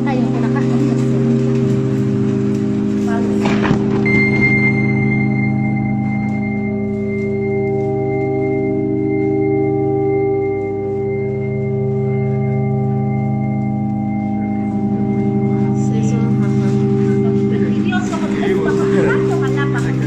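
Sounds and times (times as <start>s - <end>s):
sustained organ-like chord: 0.0s - 20.0s.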